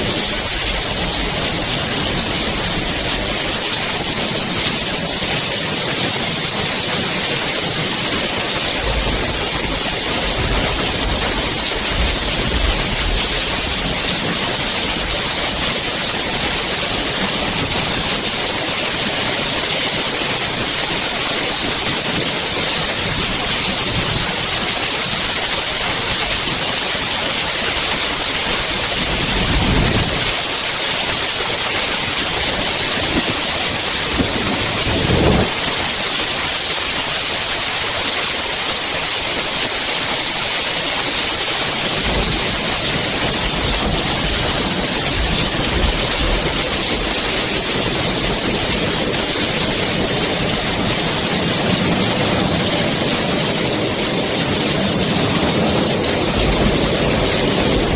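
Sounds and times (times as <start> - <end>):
distant thunder rumbles: 0.0 - 5.0, 7.0 - 36.7, 41.2 - 52.6, 55.2 - 57.9
heavy rain falling: 0.0 - 57.9.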